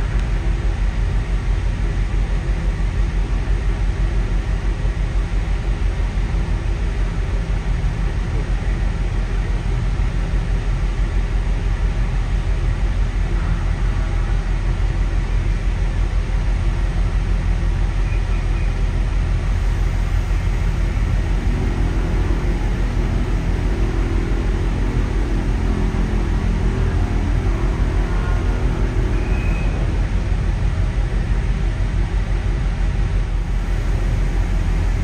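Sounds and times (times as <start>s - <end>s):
ship engines rumbling: 0.0s - 35.0s.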